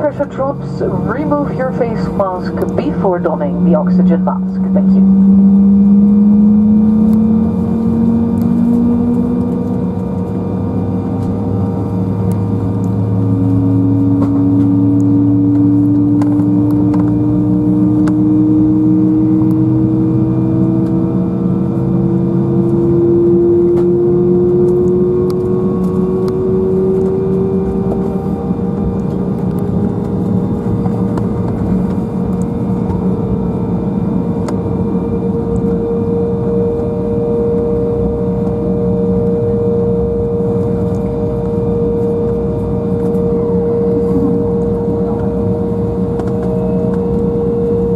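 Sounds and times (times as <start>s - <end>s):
jet engine hum and whine: 0.0s - 47.9s.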